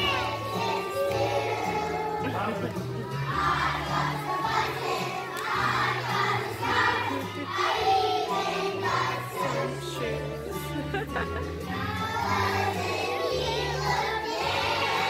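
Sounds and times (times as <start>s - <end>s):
children singing in unison: 0.0s - 2.3s, 3.1s - 10.3s, 11.7s - 15.0s
musical accompaniment: 0.0s - 15.0s.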